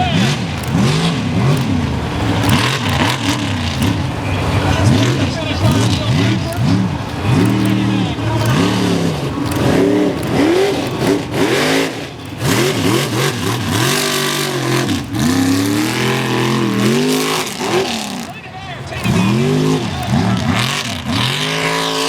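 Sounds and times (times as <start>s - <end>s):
big truck engine revving: 0.0s - 22.0s.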